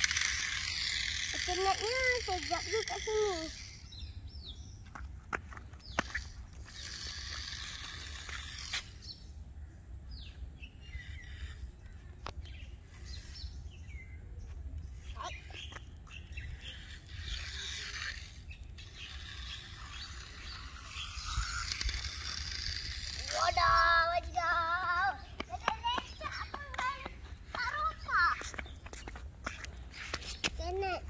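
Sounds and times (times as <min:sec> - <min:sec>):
birds chirping: 0:00.1 - 0:31.0
wind rumbling on microphone: 0:05.8 - 0:31.0.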